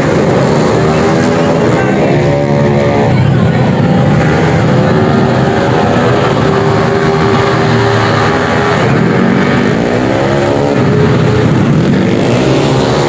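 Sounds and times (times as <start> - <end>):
racing motorcycles engines: 0.0 - 13.0.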